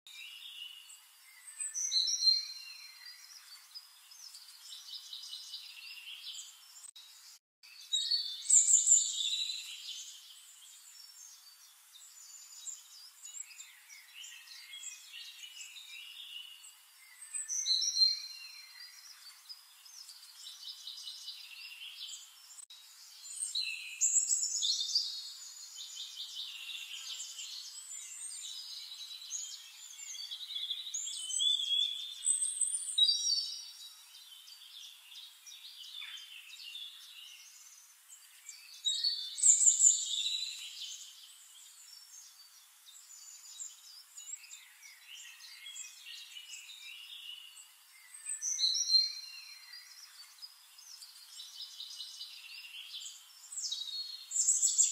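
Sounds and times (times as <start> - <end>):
faint bird chirping: 0.1 - 54.9
loud songbird song phrase: 0.1 - 54.9.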